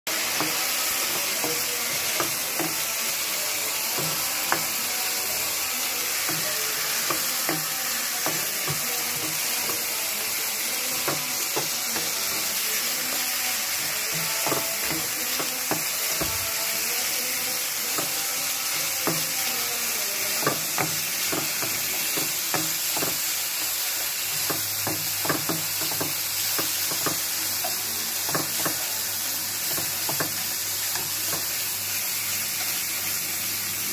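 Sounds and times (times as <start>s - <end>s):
fish sizzling in hot oil: 0.1s - 33.9s.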